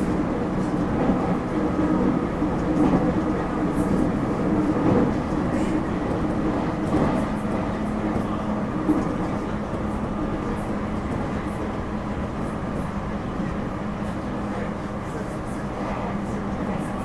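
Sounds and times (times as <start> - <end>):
train motor and rail noise: 0.0 - 17.0.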